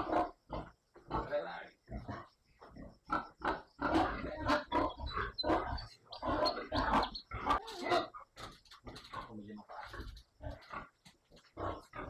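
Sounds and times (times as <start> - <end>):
pigs calling: 0.0 - 12.0.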